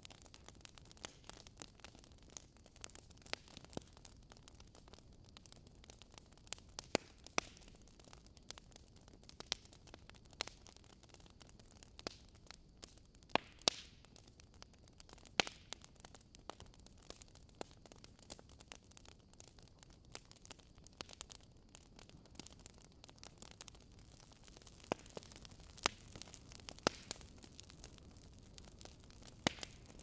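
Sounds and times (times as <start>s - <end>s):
faint steady hiss: 0.0s - 30.0s
wood fire crackling: 0.0s - 30.0s.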